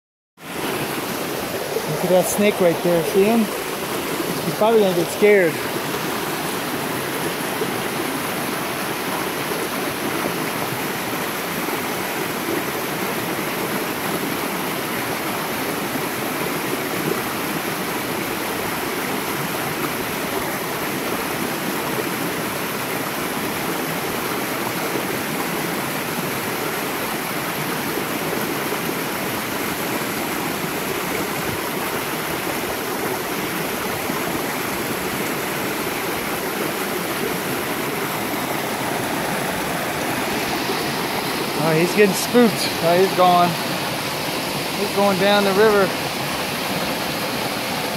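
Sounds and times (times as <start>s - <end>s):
stream rushing over rocks: 0.4s - 47.9s.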